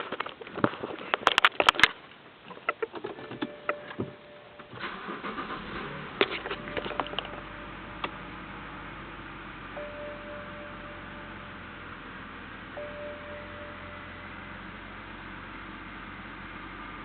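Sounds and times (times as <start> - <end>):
car engine starting and idling: 2.6 - 17.0.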